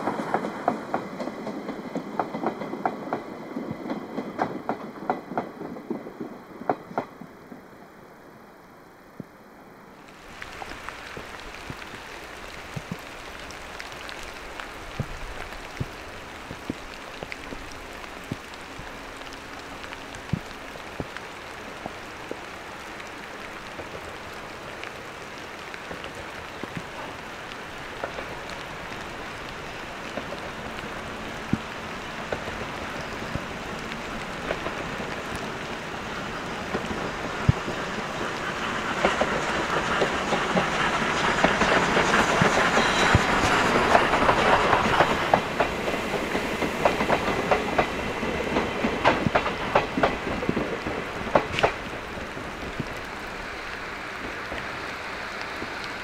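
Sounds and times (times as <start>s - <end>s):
steam train running: 0.0s - 7.8s, 10.2s - 56.0s.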